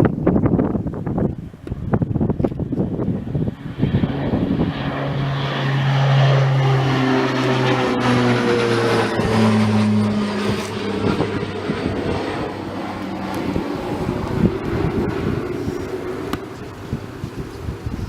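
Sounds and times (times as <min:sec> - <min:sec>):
broad rushing noise: 0:00.0 - 0:18.0
propeller aircraft passing: 0:00.0 - 0:18.0.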